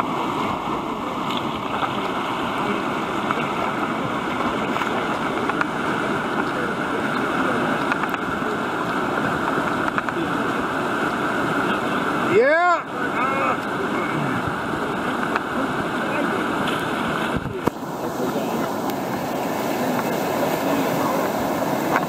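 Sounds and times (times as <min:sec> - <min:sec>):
whitewater rushing over rocks: 0:00.0 - 0:22.0.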